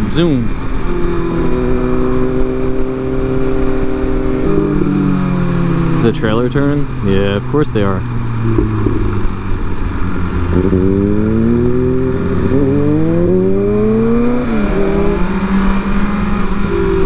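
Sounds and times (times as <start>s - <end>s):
motorcycle engine revving: 0.0s - 17.0s
rushing wind noise: 0.0s - 17.0s.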